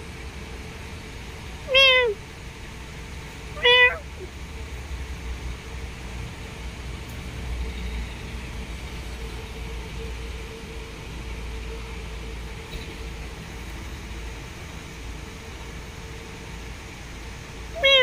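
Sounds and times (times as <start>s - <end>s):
faint constant hum: 0.0s - 18.0s.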